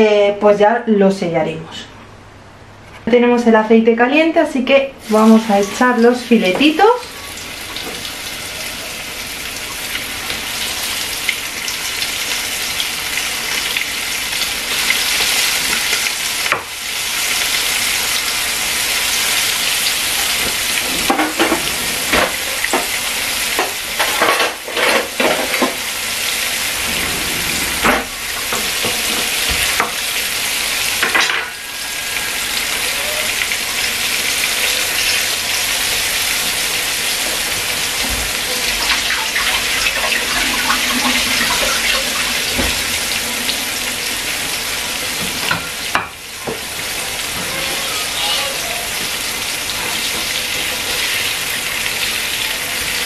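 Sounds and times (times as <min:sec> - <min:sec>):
fish sizzling in hot oil: 0:05.0 - 0:27.1, 0:27.8 - 0:53.0.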